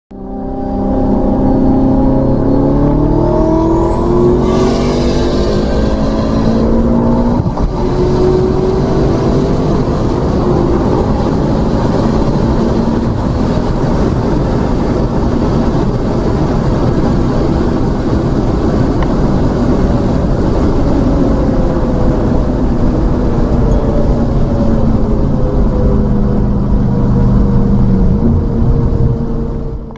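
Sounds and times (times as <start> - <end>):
car engines at full throttle: 0.1 - 29.9
wind noise at high speed: 0.2 - 29.9.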